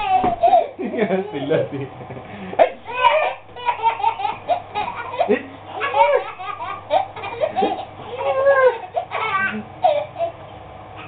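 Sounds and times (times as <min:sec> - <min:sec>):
toddler giggling: 0:00.0 - 0:02.0, 0:02.6 - 0:10.4.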